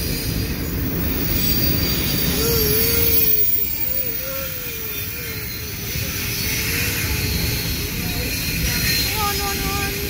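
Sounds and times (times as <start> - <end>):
wheel squeal: 0.0 - 9.8
freight train wheels rumbling: 0.0 - 10.0.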